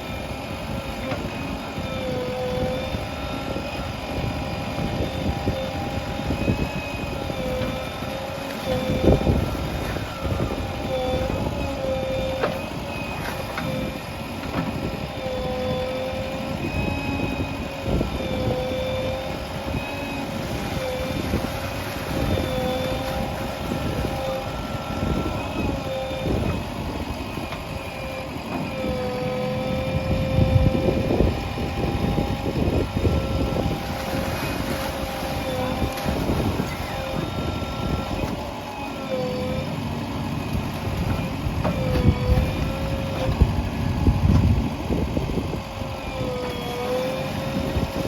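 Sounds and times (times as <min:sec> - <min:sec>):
backhoe diesel engine droning: 0:00.0 - 0:48.0.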